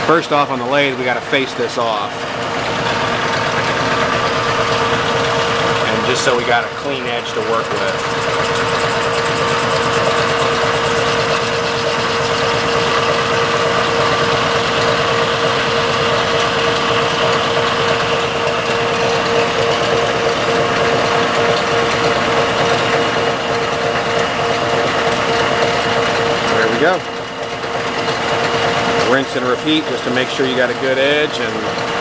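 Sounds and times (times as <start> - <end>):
metal lathe humming: 0.0 - 32.0.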